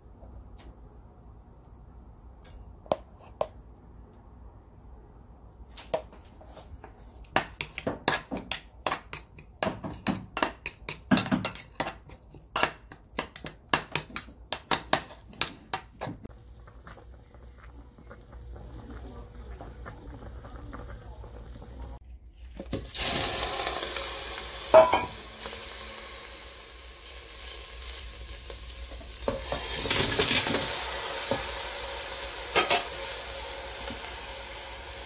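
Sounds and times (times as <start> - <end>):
pan at a rolling boil: 0.0 - 35.0.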